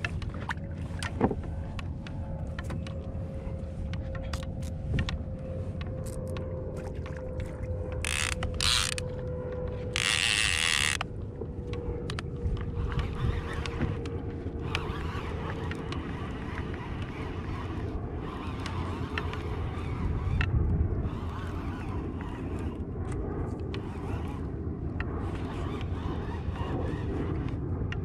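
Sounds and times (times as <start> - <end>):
faint steady whine: 0.0 - 28.0
kayak gear clicking and creaking: 0.0 - 28.0.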